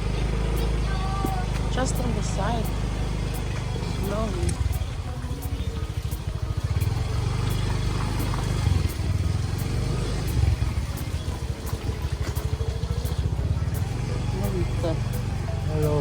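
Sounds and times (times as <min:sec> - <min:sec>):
motorbike engine rumbling: 0:00.0 - 0:16.0.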